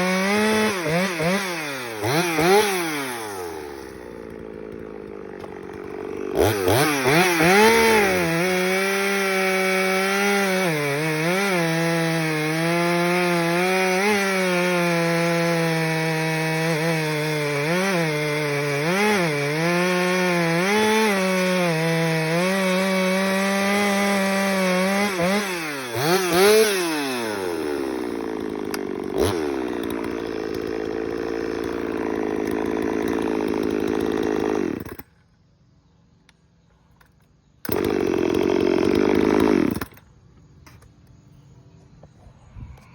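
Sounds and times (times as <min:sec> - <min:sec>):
chainsaw cutting wood: 0:00.0 - 0:35.2, 0:37.6 - 0:40.8.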